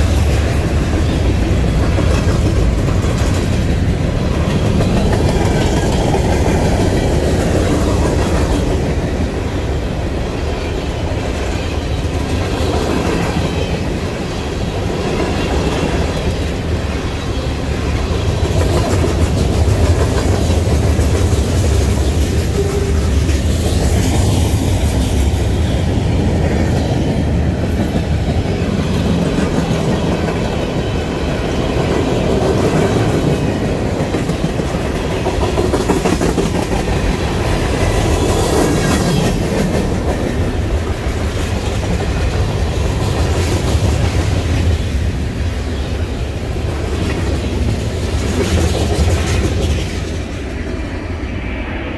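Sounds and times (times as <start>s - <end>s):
wheels clacking over rail joints: 0.0s - 9.4s, 11.0s - 44.8s
freight train rumbling past: 0.0s - 51.9s.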